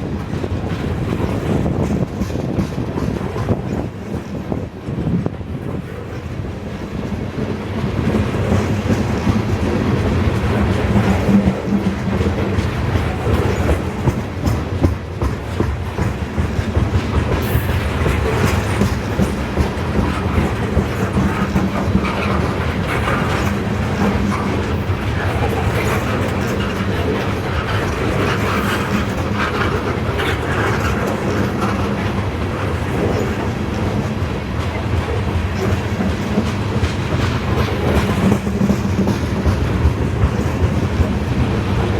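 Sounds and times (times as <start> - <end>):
train wheels clattering over rail joints: 0.0 - 41.9.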